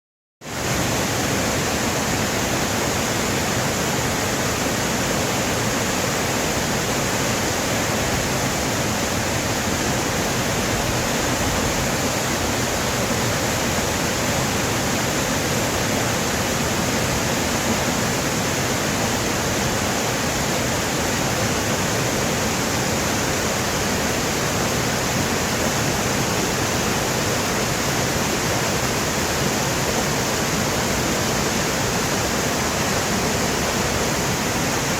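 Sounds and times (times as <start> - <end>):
stream rushing over rocks: 0.4 - 34.9.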